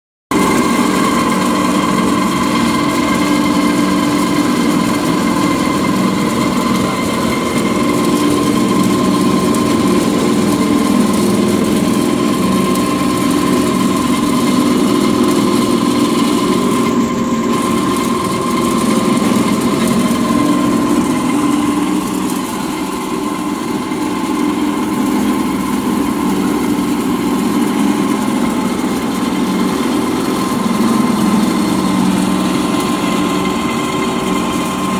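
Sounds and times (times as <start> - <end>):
pellet mill droning: 0.3 - 34.9.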